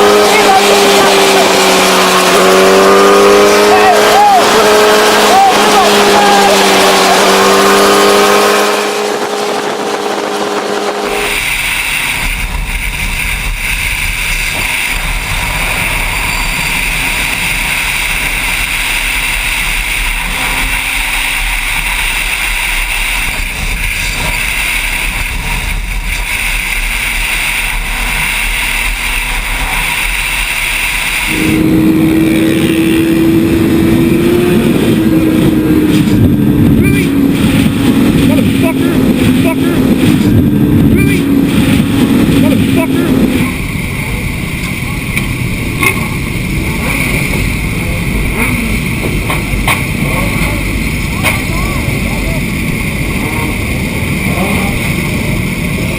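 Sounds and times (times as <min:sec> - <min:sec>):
road and wind noise: 0:00.0 - 0:55.9
vehicle engine running: 0:00.0 - 0:55.9.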